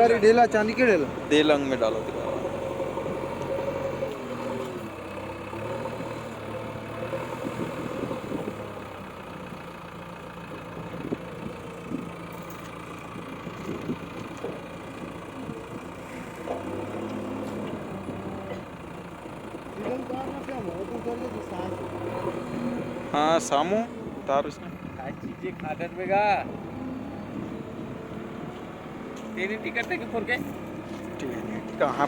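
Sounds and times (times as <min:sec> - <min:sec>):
heavy machine engine idling: 0:00.0 - 0:32.0.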